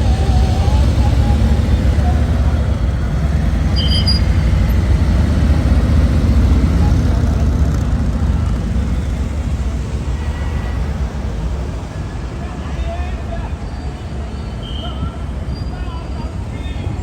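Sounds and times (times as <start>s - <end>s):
motorcycle and car engines rumbling: 0.0s - 17.0s.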